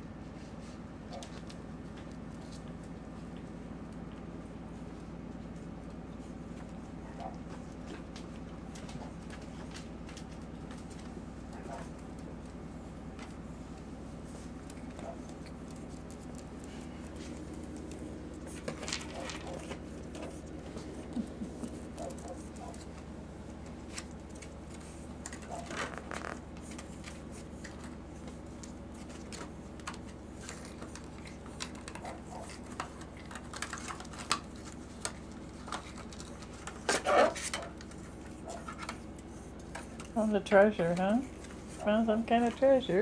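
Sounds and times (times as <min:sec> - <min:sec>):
steady low hum: 0:00.0 - 0:43.0
puppy paws pattering and scratching: 0:00.1 - 0:43.0.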